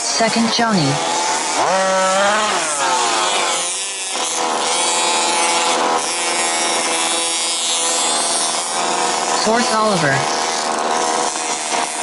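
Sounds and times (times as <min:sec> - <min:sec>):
rc car engines buzzing: 0:00.0 - 0:12.0.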